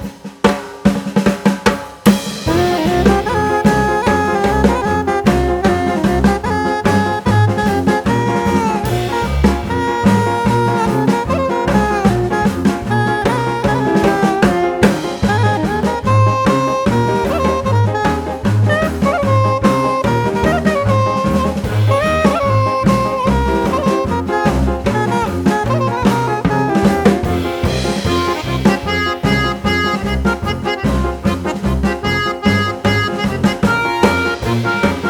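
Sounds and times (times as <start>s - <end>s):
jazz music with horn melody: 2.1s - 35.0s.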